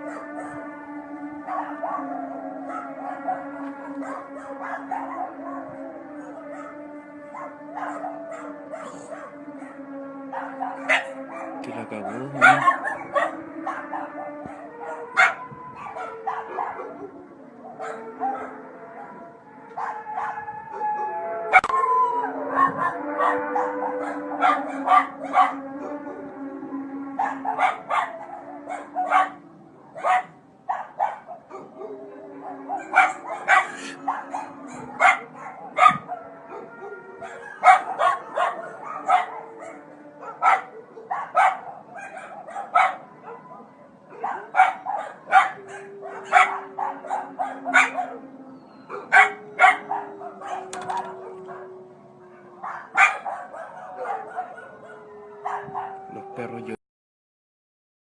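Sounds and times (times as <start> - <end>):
dogs barking and howling: 0.0 - 56.8.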